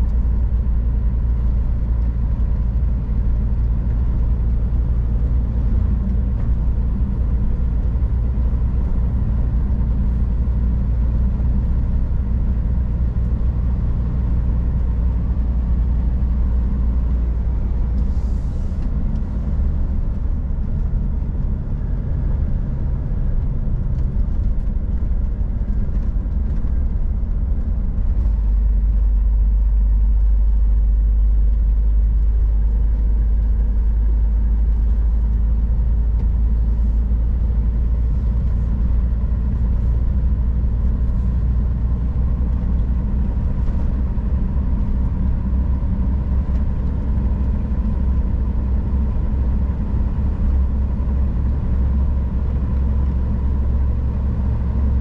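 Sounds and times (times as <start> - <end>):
road noise: 0.0 - 55.0
truck diesel engine drone: 0.0 - 55.0.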